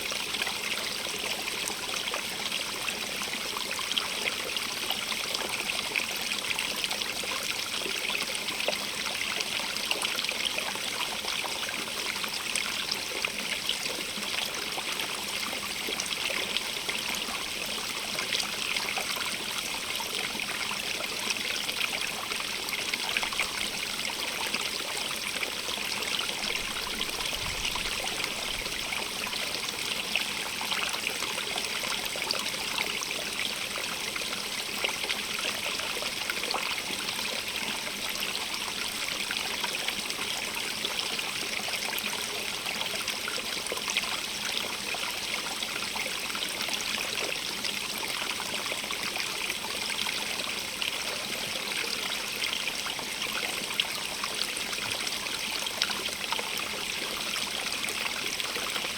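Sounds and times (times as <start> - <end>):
water trickling over stones: 3.9 - 58.9.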